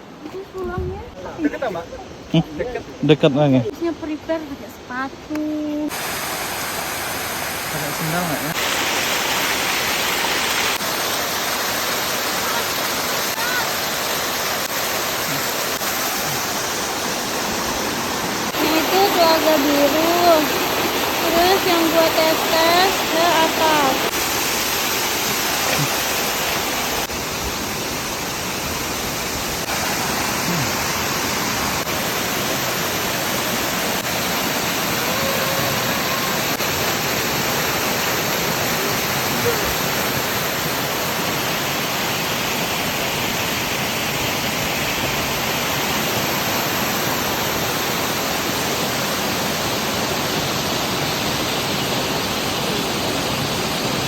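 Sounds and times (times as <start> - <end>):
waterfall rushing: 5.9 - 54.0.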